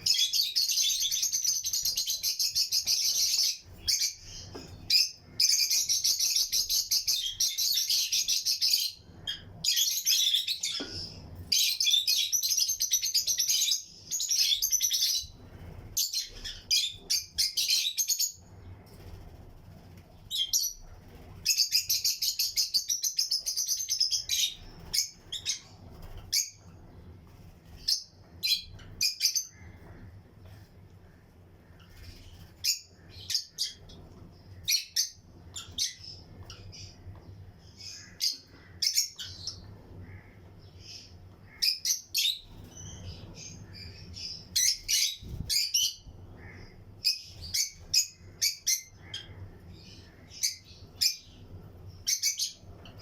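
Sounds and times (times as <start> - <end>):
lovebirds chirping: 0.0 - 19.1, 20.2 - 53.0.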